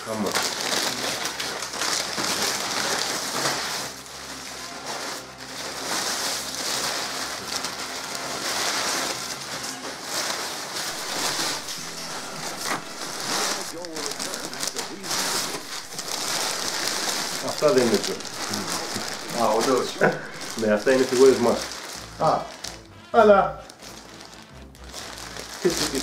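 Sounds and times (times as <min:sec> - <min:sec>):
paper rustling and crinkling: 0:00.0 - 0:23.0, 0:23.6 - 0:26.0.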